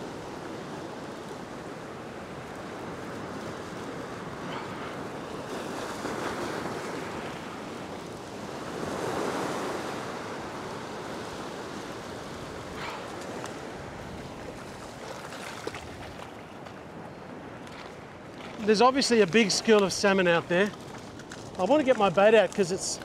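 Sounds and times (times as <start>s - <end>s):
ocean surf over rocks: 0.0s - 23.0s.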